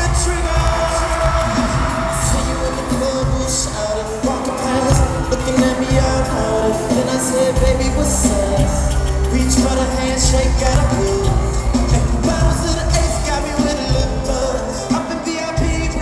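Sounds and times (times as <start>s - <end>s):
deep bass: 0.0s - 14.6s
live band music: 0.0s - 16.0s
man singing: 0.0s - 16.0s.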